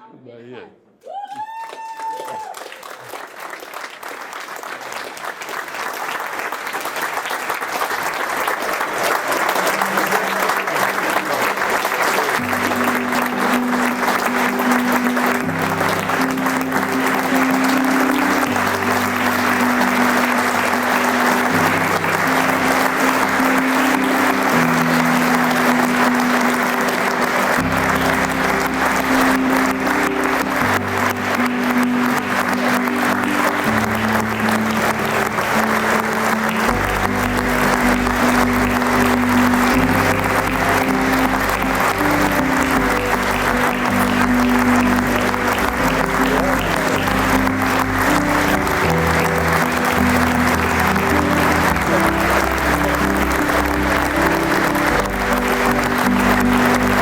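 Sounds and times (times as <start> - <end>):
crowd applauding: 1.0 - 57.0.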